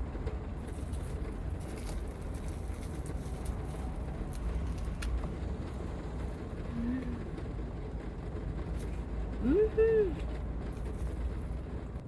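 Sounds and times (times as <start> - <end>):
heavy rain drumming on roof: 0.0 - 12.0.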